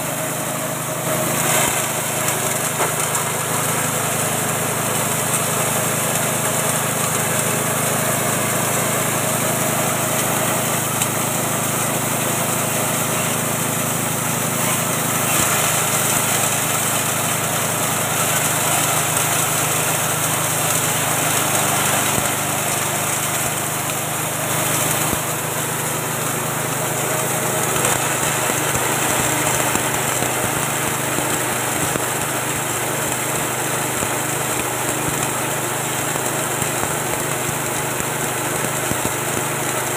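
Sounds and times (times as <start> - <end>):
small engine running under load: 0.0 - 39.9.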